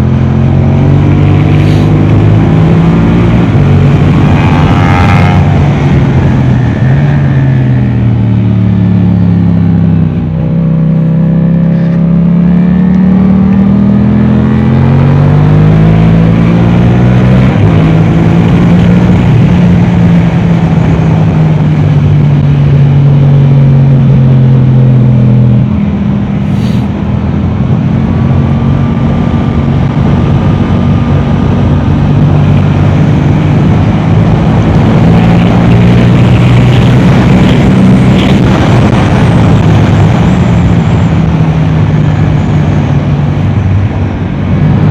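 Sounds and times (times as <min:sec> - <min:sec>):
motorcycle engine revving hard: 0:00.0 - 0:25.7, 0:26.4 - 0:44.9.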